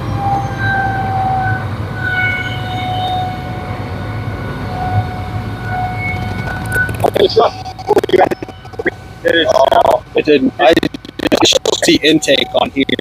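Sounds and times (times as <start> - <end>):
fire engine pump droning: 0.0 - 13.0.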